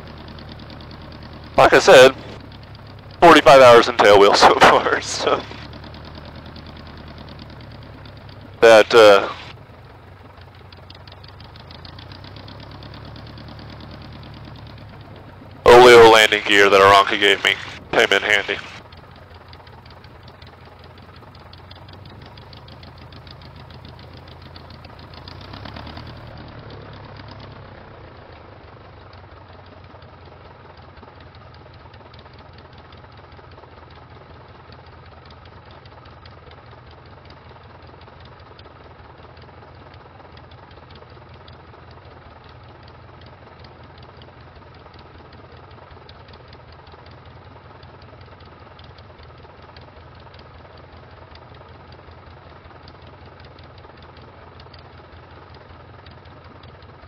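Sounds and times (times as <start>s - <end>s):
small plane engine idling: 0.0s - 57.0s.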